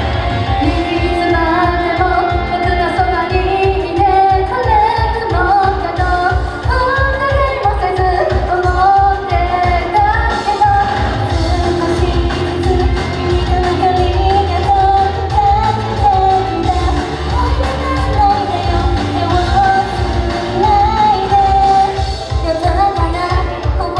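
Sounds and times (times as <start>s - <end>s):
fast thumping beat: 0.0s - 23.9s
pop song over sound system: 0.0s - 23.9s
woman singing: 0.0s - 23.9s.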